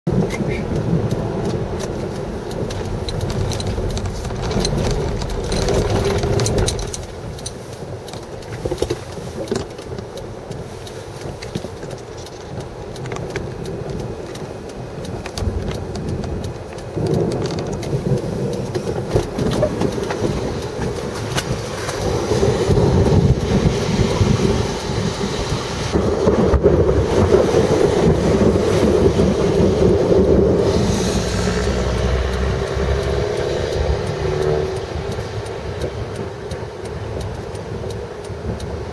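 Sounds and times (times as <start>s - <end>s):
low rumbling wind: 0.1s - 38.9s
vehicle noise: 0.1s - 38.9s.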